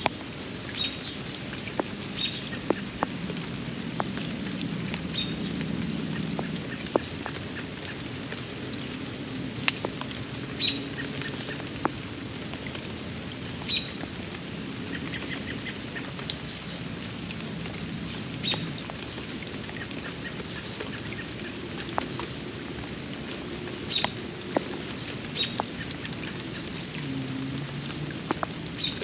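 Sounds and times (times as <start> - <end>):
rain falling on pond: 0.0 - 29.0
sharp drips: 0.0 - 29.0.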